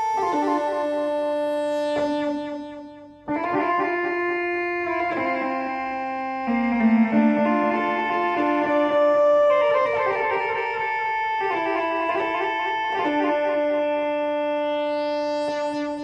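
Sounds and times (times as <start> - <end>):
analog synthesizer melody: 0.0 - 16.0.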